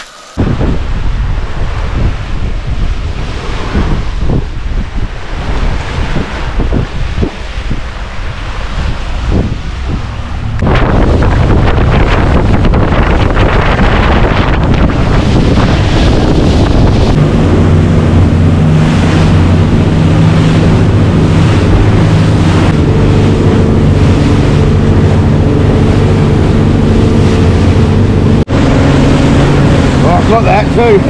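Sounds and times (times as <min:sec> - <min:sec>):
outboard engine running: 0:00.0 - 0:31.0
water rushing past hull: 0:00.0 - 0:31.0
wind on microphone: 0:00.0 - 0:31.0.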